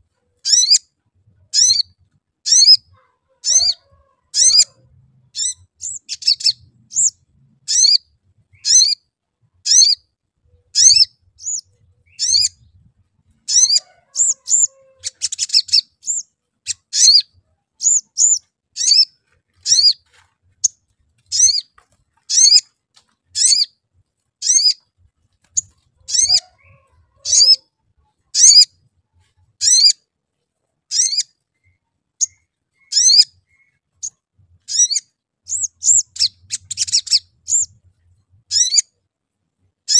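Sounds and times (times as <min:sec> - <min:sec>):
bird chirping: 0:00.0 - 0:23.8, 0:24.4 - 0:39.0.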